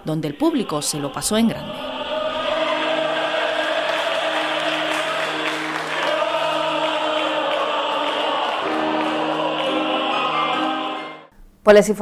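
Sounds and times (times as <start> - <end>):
male operatic voices singing: 0.1 - 11.3
grand piano accompaniment: 1.7 - 11.3.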